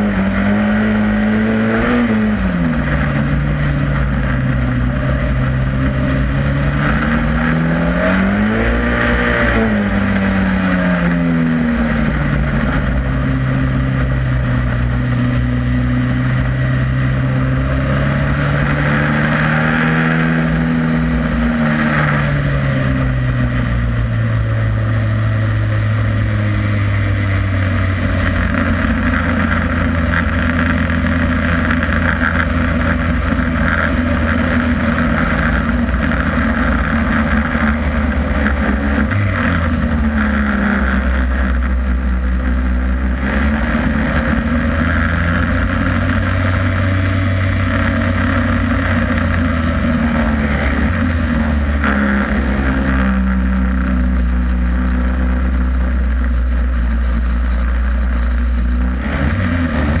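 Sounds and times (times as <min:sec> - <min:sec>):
race car engine: 0:00.0 - 1:00.0.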